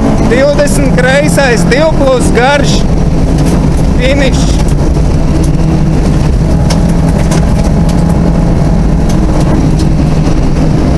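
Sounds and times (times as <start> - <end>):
car engine running: 0.0 - 10.9.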